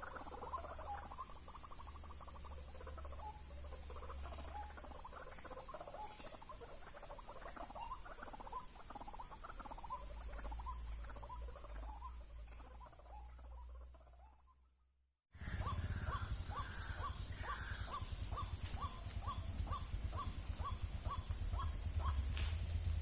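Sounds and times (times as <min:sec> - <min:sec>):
waterhens calling: 0:00.0 - 0:14.4, 0:15.4 - 0:23.0.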